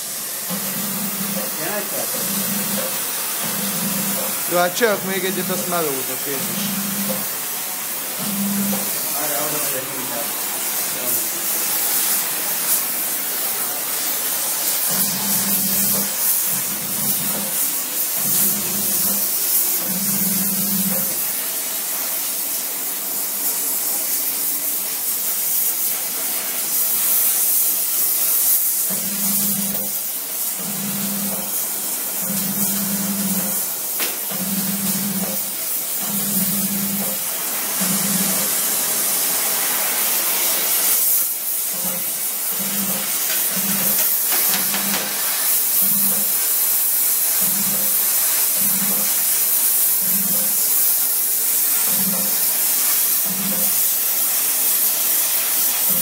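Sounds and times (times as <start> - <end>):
welding torch flame hissing: 0.0 - 56.0.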